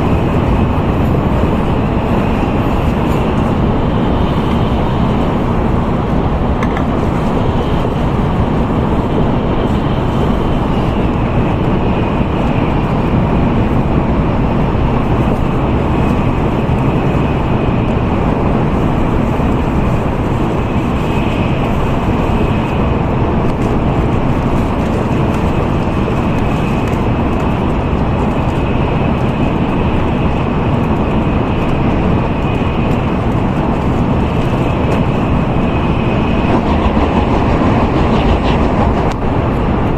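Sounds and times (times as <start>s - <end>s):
train rumble and rush: 0.0s - 39.9s.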